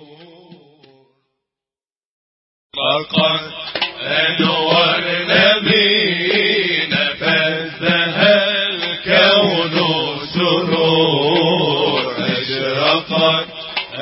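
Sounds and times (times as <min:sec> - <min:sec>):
voices chanting a religious song: 0:02.8 - 0:14.0.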